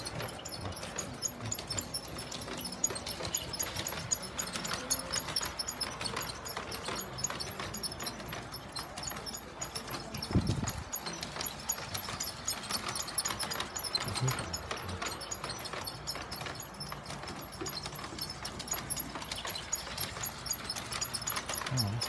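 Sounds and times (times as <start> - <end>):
model train wheels clicking: 0.0 - 22.0.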